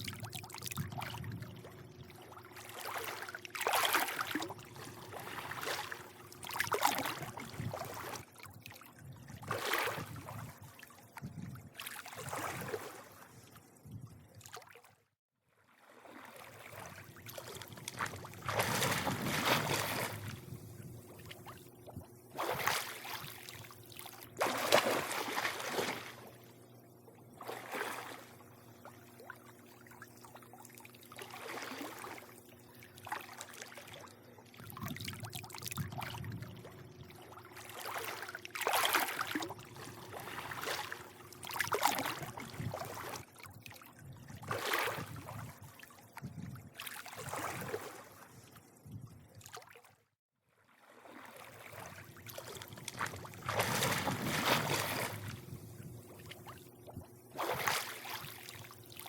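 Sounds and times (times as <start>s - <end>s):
steady low hum: 0.0s - 11.8s, 16.6s - 46.8s, 51.6s - 59.0s
pool water lapping and sloshing: 0.0s - 59.0s.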